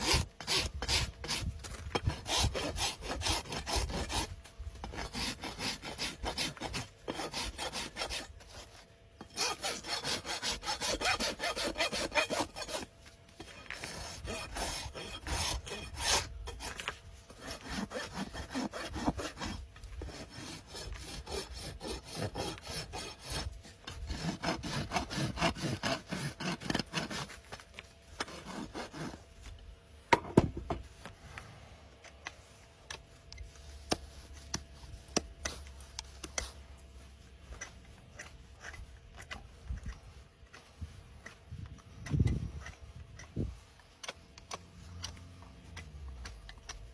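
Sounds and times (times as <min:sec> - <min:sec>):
rasp filing a hoof: 0:00.0 - 0:31.1, 0:32.0 - 0:46.9.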